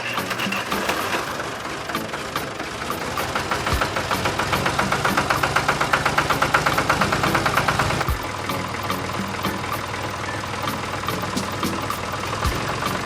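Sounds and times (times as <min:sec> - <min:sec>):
rapid mechanical clicking: 0:00.0 - 0:13.0.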